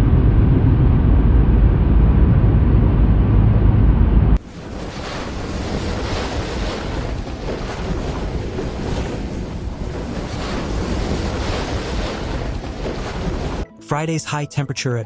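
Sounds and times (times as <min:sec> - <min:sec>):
strong wind rushing: 0:00.0 - 0:13.6
wind buffeting microphone: 0:00.0 - 0:13.6.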